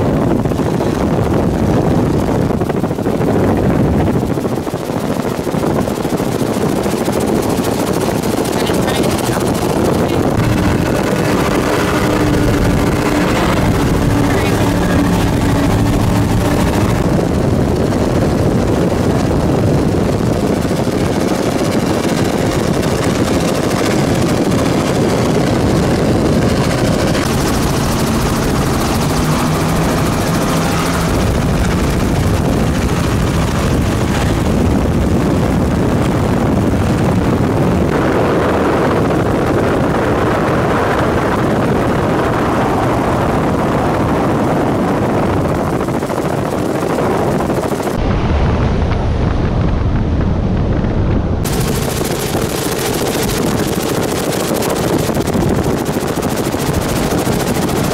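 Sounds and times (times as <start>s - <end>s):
powerboat engine drone: 0.0s - 57.9s
wind: 0.0s - 57.9s.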